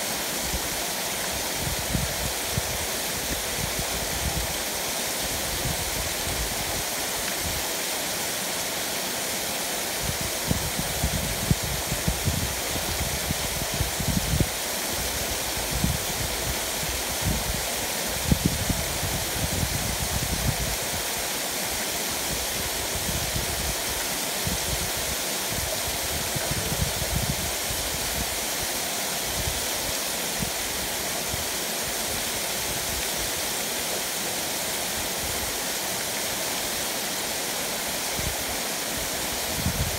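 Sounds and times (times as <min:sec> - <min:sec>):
waterfall splashing on rocks: 0:00.0 - 0:39.9.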